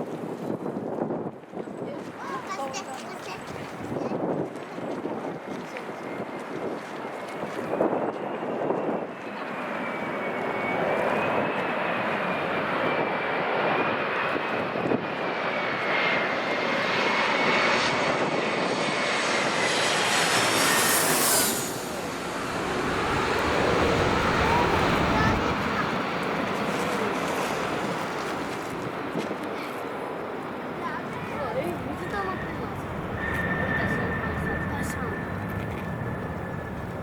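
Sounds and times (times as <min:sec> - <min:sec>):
jet engines passing close by: 0:02.2 - 0:37.0.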